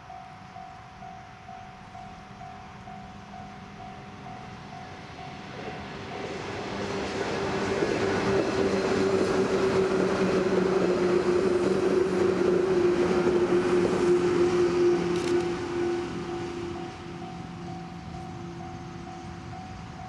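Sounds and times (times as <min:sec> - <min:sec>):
wheels rumbling on rails: 0:00.0 - 0:20.0.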